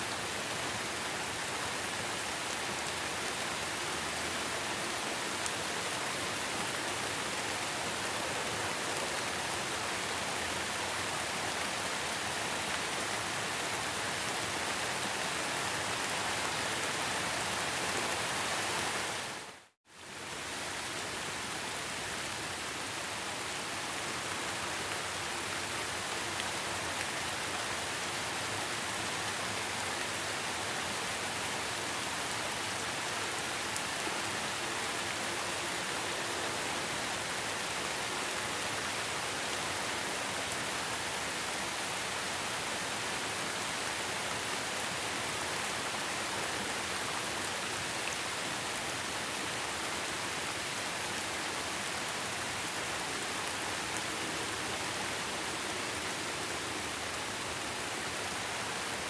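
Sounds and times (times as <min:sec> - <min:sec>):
heavy rain falling: 0:00.1 - 0:59.0.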